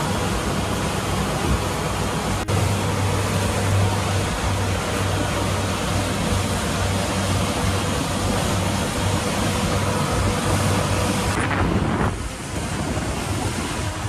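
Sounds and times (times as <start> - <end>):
outboard motor humming: 0.0 - 14.0
rush of wind and spray: 0.0 - 14.0.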